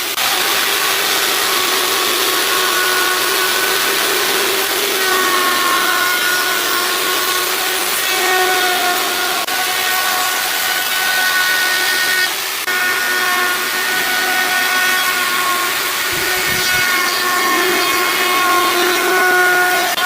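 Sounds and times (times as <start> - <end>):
chainsaw cutting log: 0.0 - 20.0.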